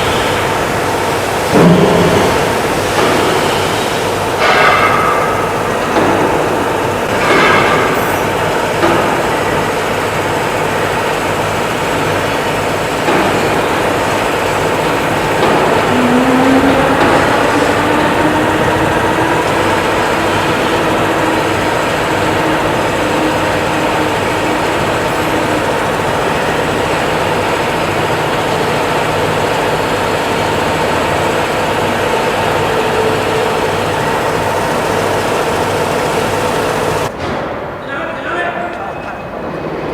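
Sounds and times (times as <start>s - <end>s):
motor running: 0.0s - 37.1s.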